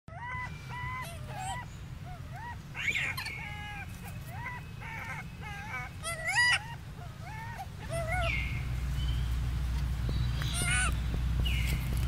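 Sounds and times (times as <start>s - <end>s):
baby monkey cooing and squeaking: 0.1s - 8.8s, 10.1s - 12.0s.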